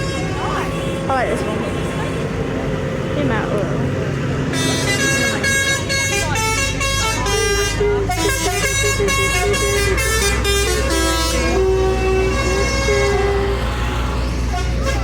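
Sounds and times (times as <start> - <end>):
engines rumbling: 0.0 - 15.0
vehicle horns tooting: 0.0 - 15.0.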